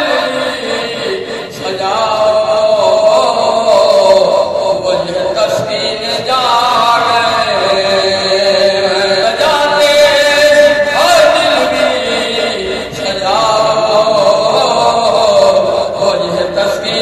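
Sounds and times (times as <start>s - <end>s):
man chanting into a microphone: 0.0s - 17.0s.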